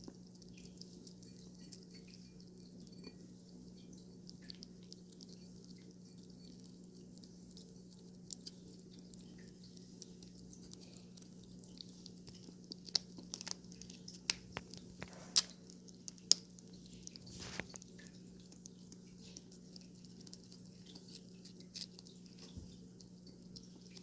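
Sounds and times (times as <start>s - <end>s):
cat licking and chewing: 0.0s - 24.0s.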